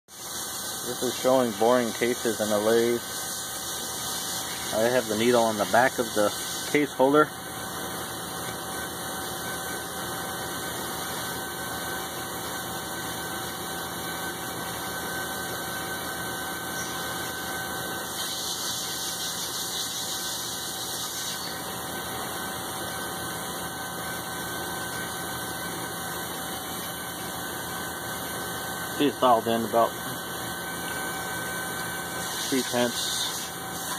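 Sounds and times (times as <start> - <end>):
metal lathe humming: 0.2 - 33.9.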